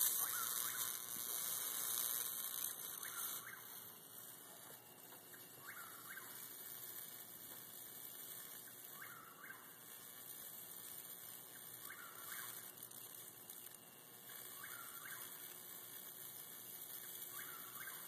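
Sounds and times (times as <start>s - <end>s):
bug zapper sizzling: 0.0s - 18.0s.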